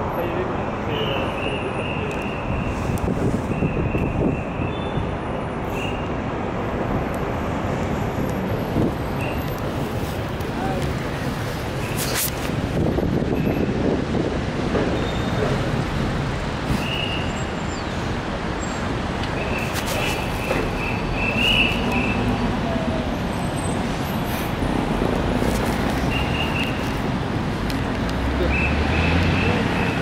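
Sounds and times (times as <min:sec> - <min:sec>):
city road traffic: 0:00.0 - 0:30.0.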